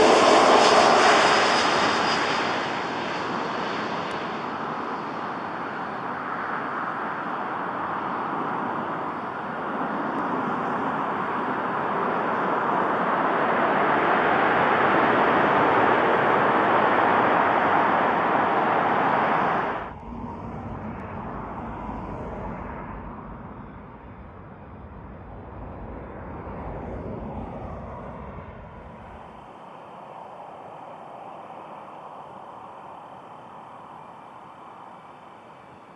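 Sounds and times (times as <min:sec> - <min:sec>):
jet engine rushing: 0:00.0 - 0:35.9.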